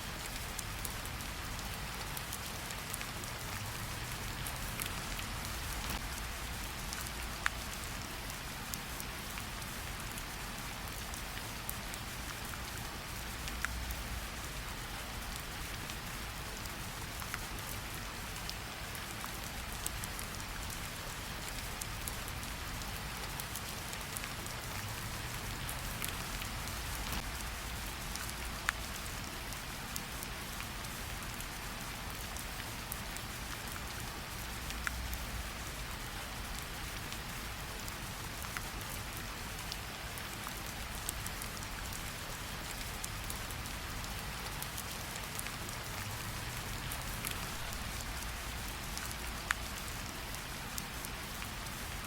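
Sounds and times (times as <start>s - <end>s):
rain pattering on leaves: 0.0s - 52.0s.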